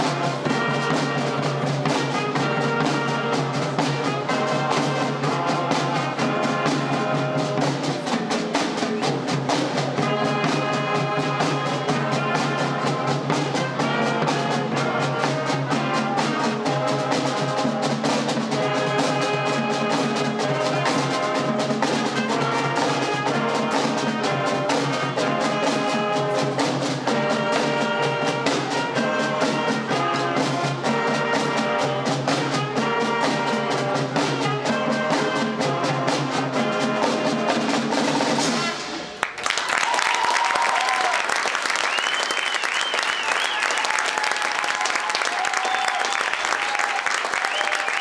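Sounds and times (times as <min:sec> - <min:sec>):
brass instruments melody: 0:00.0 - 0:39.2
snare and bass drums: 0:00.0 - 0:39.2.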